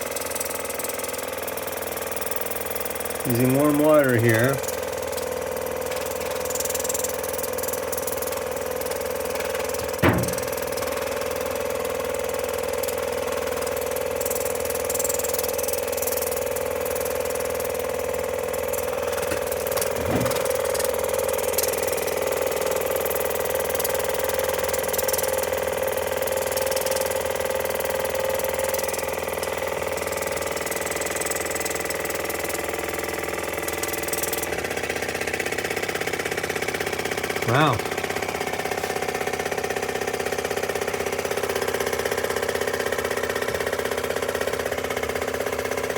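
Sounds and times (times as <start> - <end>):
pump motor buzzing: 0.0 - 45.9.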